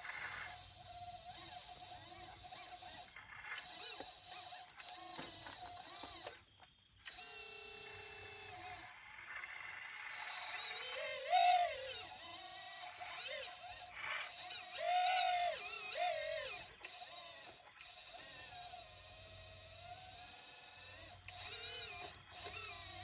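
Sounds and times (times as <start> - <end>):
hydraulic pump motor whining: 0.0 - 23.0.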